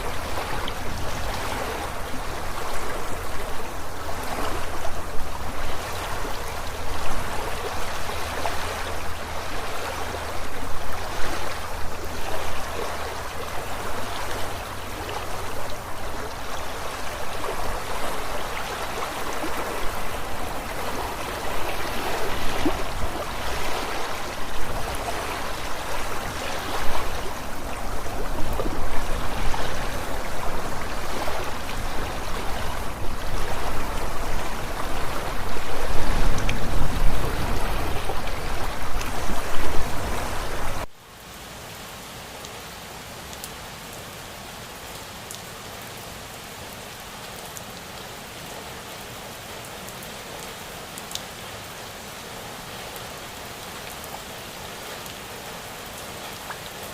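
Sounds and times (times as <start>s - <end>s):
steady rain hiss: 0.0s - 56.9s
stream running water: 0.0s - 56.9s.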